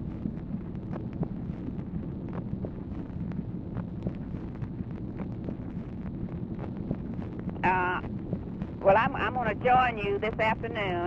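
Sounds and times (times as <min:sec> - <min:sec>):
recording surface hiss and crackles: 0:00.0 - 0:11.0.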